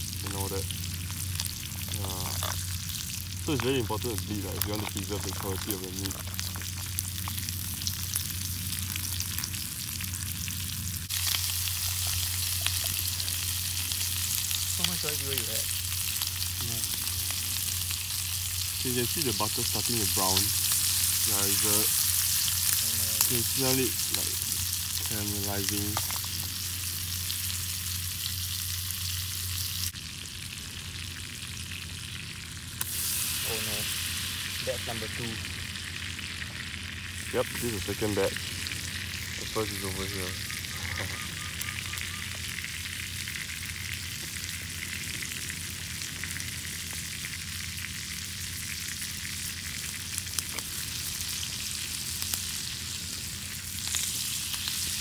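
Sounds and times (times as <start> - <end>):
fish frying in butter: 0.0 - 55.0.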